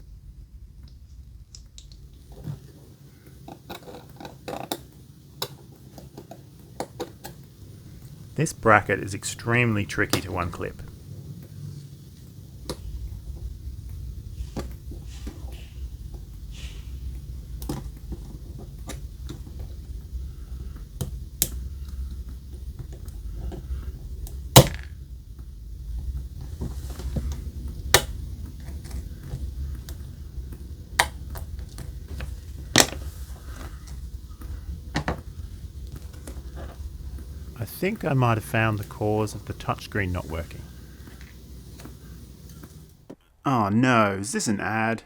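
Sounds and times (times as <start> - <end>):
low steady hum: 0.0 - 4.3, 7.3 - 43.1.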